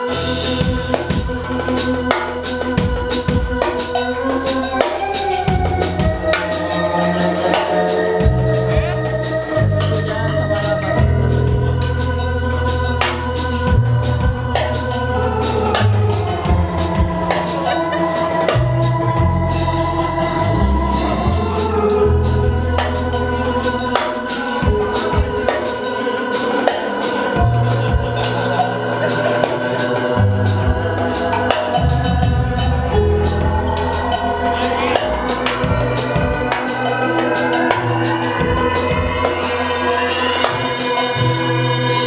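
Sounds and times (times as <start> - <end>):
bass line: 0.0 - 42.0
drum hits: 0.0 - 42.0
live band playing: 0.0 - 42.0
organ-like chords: 0.0 - 42.0.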